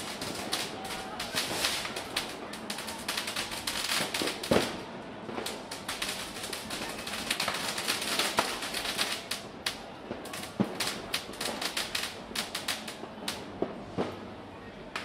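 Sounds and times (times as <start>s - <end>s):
fireworks bangs: 0.0s - 14.4s
firecrackers crackling: 0.0s - 15.0s.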